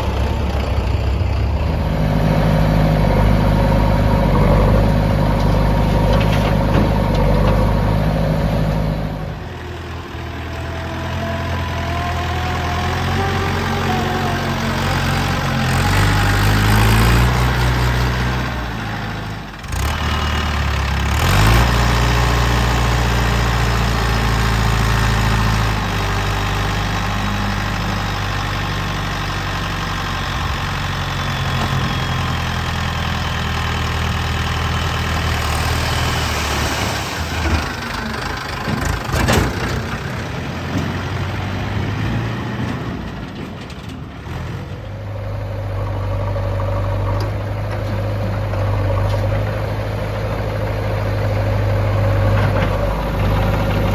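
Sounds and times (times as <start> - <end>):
diesel engines running: 0.0 - 53.9.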